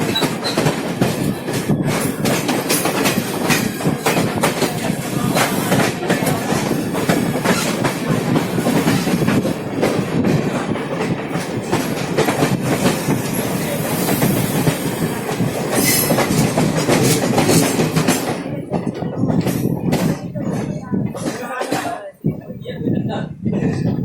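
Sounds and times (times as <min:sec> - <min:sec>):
wheels clacking over rail joints: 0:00.0 - 0:22.0
train coach rumble: 0:00.0 - 0:24.0.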